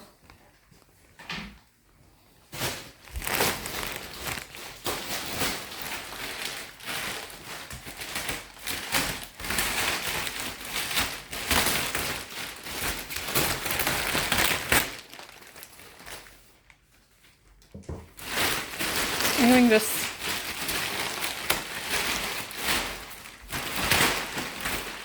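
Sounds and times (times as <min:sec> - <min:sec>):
plastic wrapping crinkling: 0:02.4 - 0:25.0.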